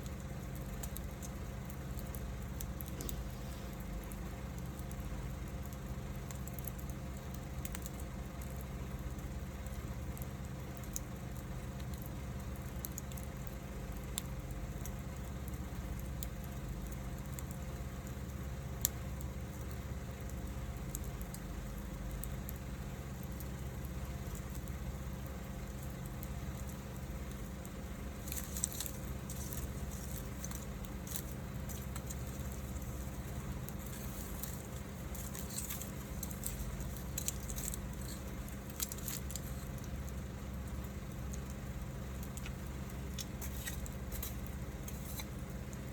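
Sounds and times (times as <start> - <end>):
fire low rumble: 0.0 - 45.9
wood fire crackling and popping: 0.0 - 45.9.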